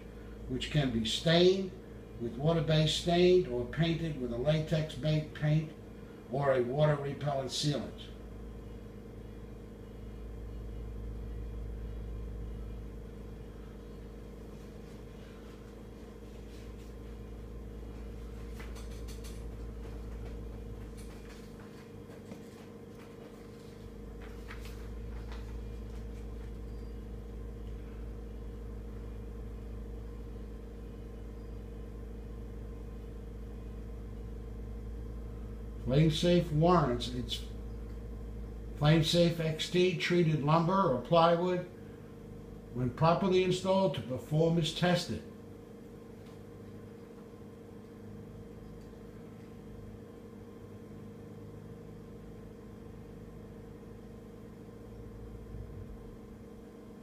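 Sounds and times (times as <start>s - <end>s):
constant hum: 0.0s - 57.0s
gas burner flame rumbling: 0.0s - 57.0s.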